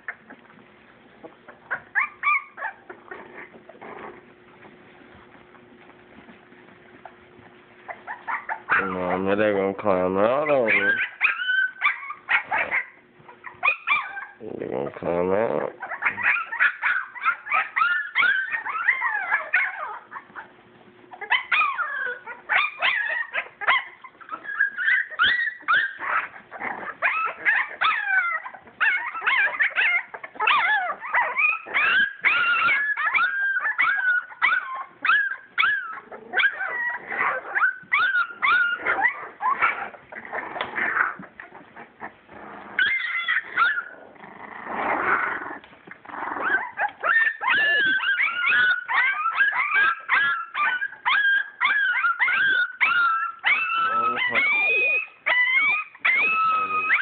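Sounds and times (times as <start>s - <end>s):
puppies whimpering and yipping: 0.0s - 57.0s.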